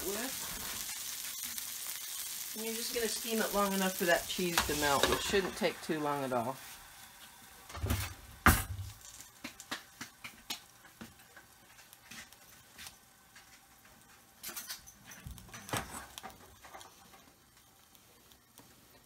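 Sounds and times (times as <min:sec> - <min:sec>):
water sizzling in a hot skillet: 0:00.0 - 0:19.0.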